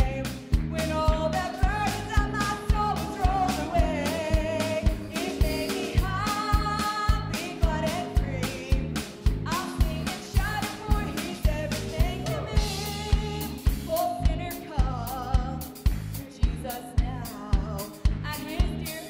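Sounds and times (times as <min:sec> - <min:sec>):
drum kit beat: 0:00.0 - 0:19.0
electric bass: 0:00.0 - 0:19.0
piano: 0:00.0 - 0:19.0
woman singing lead: 0:00.0 - 0:19.0.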